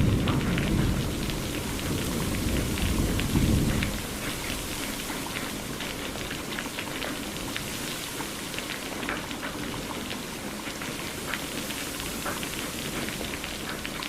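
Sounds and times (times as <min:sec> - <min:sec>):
raindrops hitting: 0:00.0 - 0:14.0
steady rain: 0:00.0 - 0:14.0.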